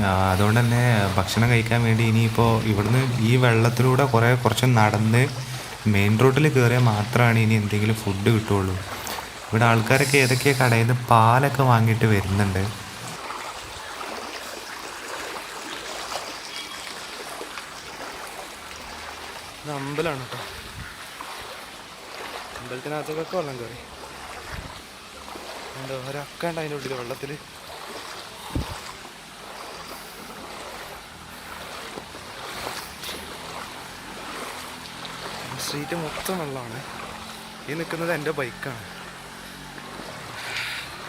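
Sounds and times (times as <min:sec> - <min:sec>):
floodwater rushing and sloshing: 0:00.0 - 0:41.0
short water splashes: 0:00.0 - 0:41.0.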